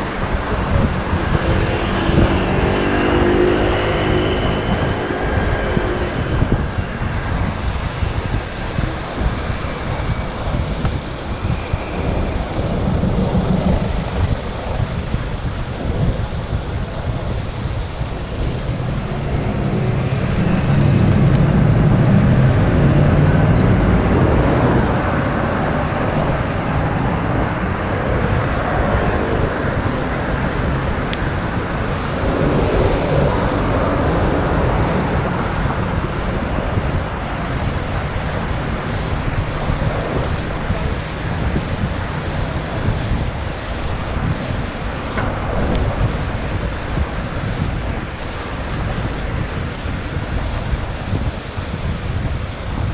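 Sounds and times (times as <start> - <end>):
traffic noise: 0.0 - 52.9
wind rumbling on microphone: 0.0 - 52.9.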